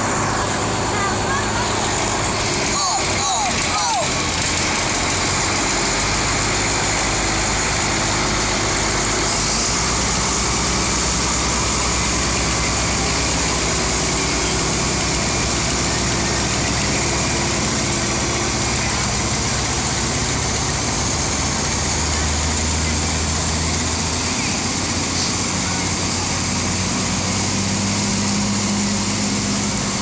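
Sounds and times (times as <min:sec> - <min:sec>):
tractor engines running: 0:00.0 - 0:30.0.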